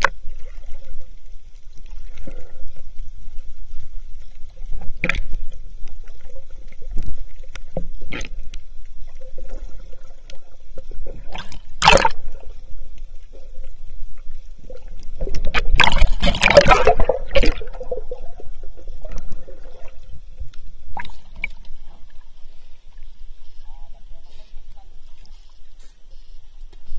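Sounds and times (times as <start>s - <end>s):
water bubbling and churning: 0.0s - 25.5s
underwater rumble: 0.0s - 26.9s.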